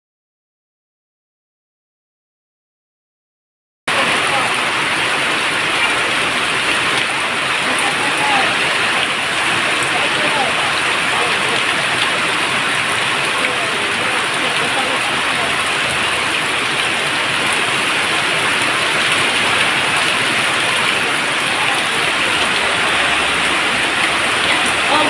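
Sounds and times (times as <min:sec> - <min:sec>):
steady rain falling: 0:03.9 - 0:25.0.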